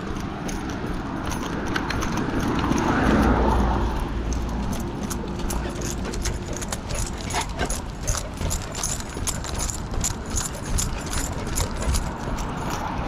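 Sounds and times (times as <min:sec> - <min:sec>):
leash clasp jingling: 0:00.0 - 0:13.0.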